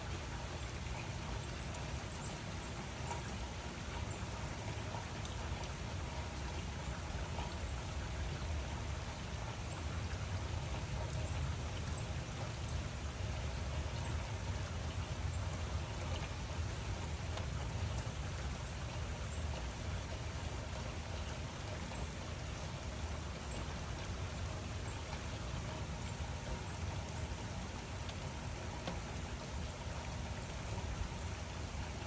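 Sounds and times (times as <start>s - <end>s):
rain drops ticking: 0.0s - 32.0s
rain falling: 0.0s - 32.0s.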